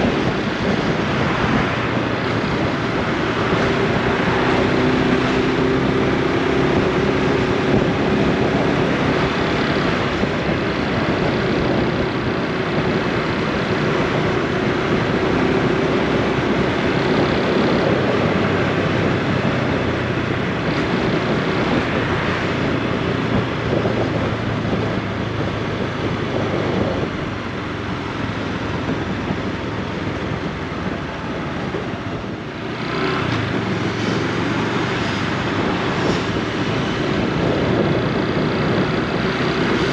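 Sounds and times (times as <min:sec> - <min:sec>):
steady rush of noise: 0:00.0 - 0:39.9.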